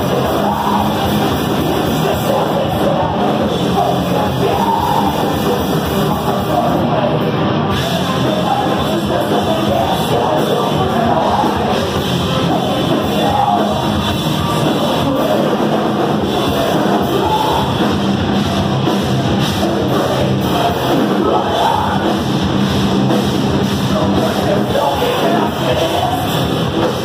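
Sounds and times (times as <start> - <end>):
heavy metal band playing live: 0.0 - 27.0
vocals: 0.0 - 27.0.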